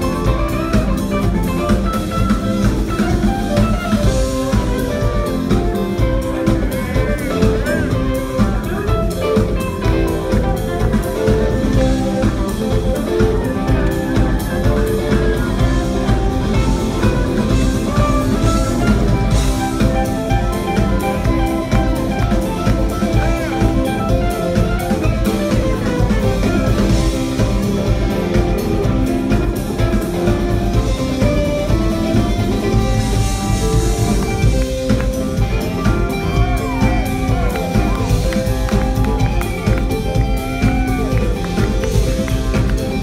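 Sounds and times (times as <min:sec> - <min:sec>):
drum kit: 0:00.0 - 0:43.0
electric guitar: 0:00.0 - 0:43.0.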